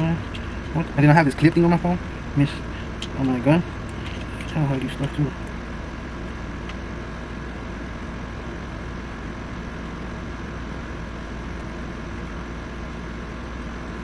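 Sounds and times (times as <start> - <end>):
steady background hum and hiss: 0.0 - 14.0.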